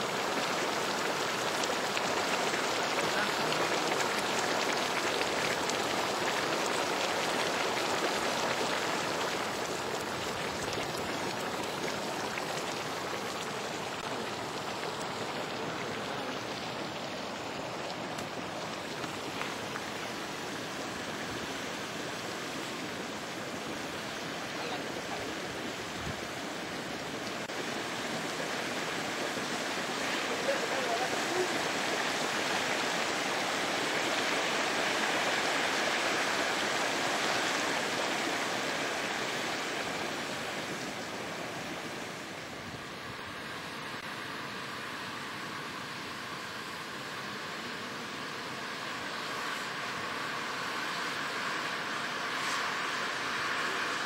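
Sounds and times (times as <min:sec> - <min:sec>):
steam hissing from fumarole: 0:00.0 - 0:54.0.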